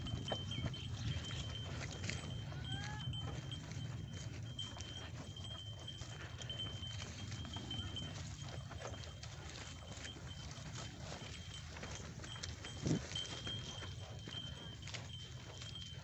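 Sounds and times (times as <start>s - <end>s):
hooves tramping on soil: 0.0s - 16.0s.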